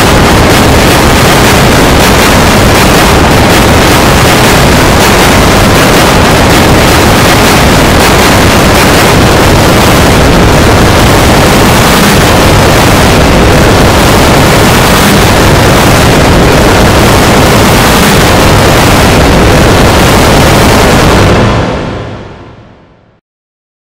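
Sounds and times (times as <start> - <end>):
heavily distorted noise: 0.0 - 23.2.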